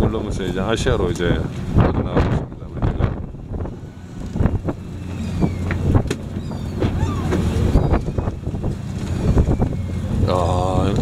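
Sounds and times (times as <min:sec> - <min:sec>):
boat engine humming: 0:00.0 - 0:11.0
wind on microphone: 0:00.0 - 0:11.0.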